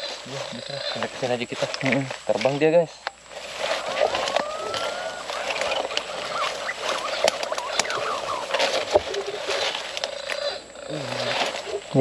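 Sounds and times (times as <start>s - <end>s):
forest ambience hiss: 0.0s - 12.0s
wild birds chirping and whistling: 0.0s - 12.0s.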